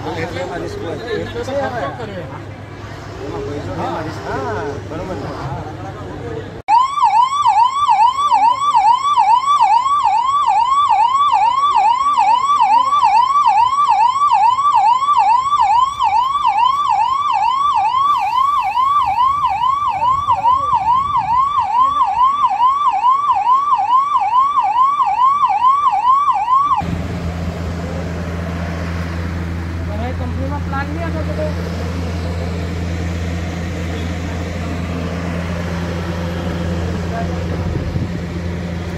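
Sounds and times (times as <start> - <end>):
fire engine siren yelping: 6.7 - 38.9.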